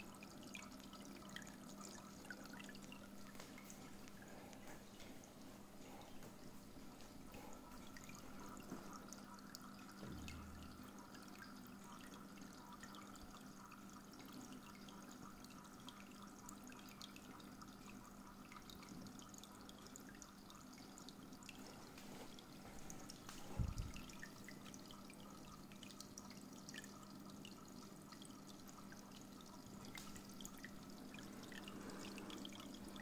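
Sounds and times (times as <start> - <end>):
steady low hum: 0.0 - 33.0
water trickling and dripping: 0.0 - 33.0.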